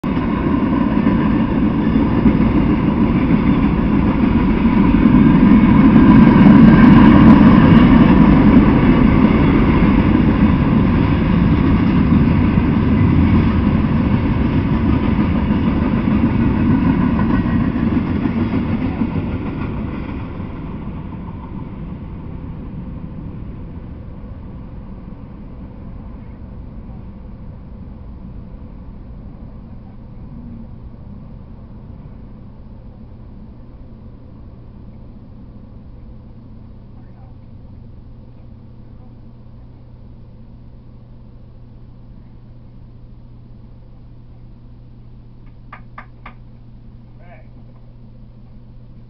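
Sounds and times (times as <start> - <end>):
freight train rolling past: 0.0 - 49.0.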